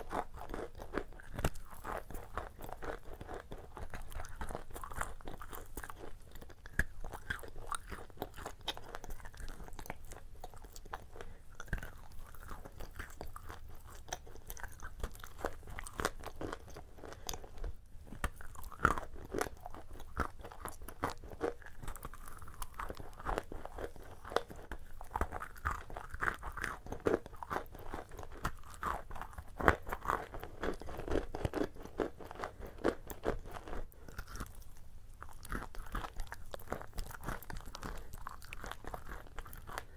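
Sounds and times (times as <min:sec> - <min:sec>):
chewing crunchy cookies: 0:00.0 - 0:39.9.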